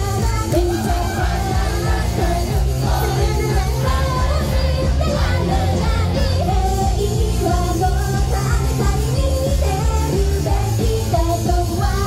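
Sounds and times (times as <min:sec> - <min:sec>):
female voices singing: 0:00.0 - 0:12.0
pop-rock backing track: 0:00.0 - 0:12.0.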